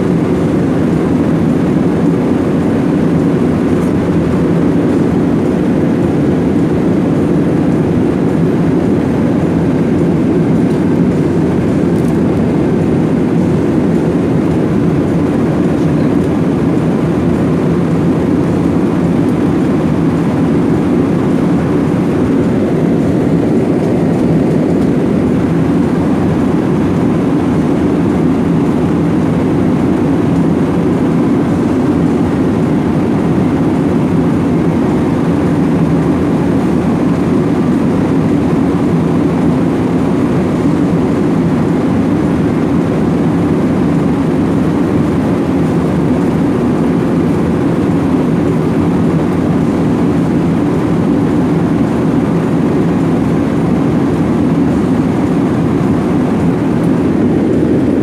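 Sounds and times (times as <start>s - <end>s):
jet airliner cabin noise: 0.0s - 58.0s.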